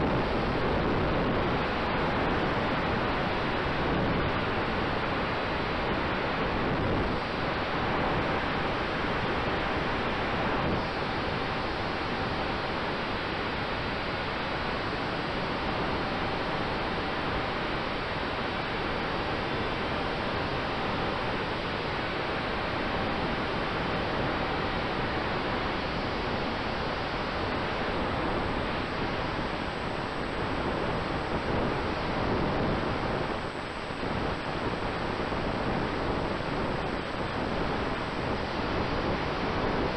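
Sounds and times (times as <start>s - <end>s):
faint steady hum: 0.0s - 39.9s
rushing airflow noise: 0.0s - 39.9s.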